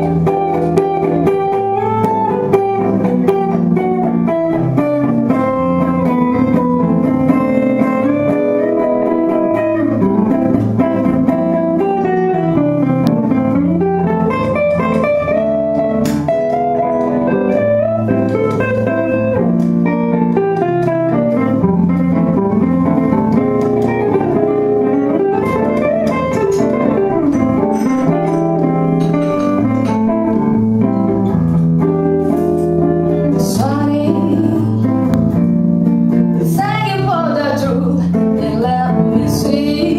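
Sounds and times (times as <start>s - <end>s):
bass: 0.0s - 39.9s
guitar: 0.0s - 39.9s
live band performing: 0.0s - 39.9s.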